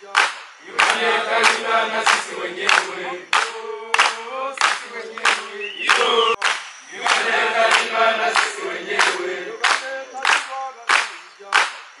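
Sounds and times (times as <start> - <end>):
group of voices singing: 0.0 - 11.8
rhythmic hand clapping: 0.0 - 12.0.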